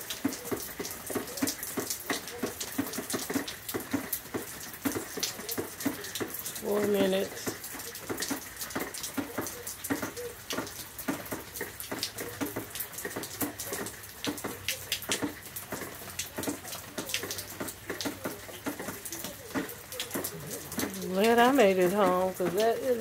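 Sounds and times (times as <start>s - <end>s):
rain splashing on wet ground: 0.0s - 23.0s.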